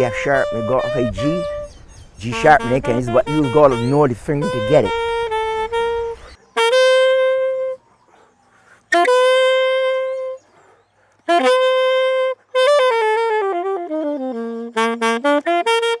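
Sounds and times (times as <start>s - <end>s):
solo saxophone playing: 0.0s - 7.9s, 8.9s - 10.4s, 11.2s - 16.0s.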